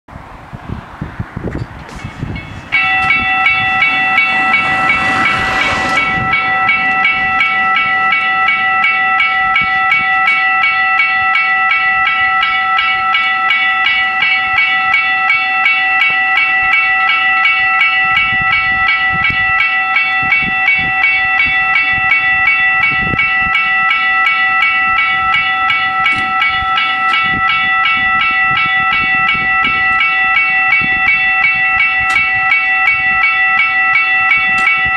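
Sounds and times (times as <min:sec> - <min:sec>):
level crossing warning bells: 0:01.6 - 0:34.9.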